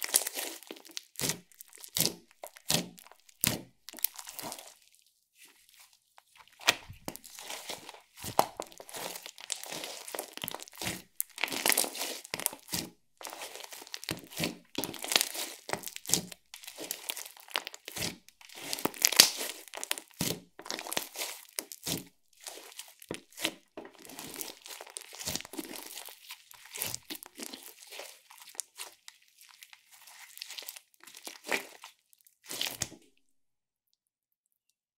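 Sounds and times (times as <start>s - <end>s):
slime crackling and popping: 0.0s - 5.1s, 6.2s - 33.2s.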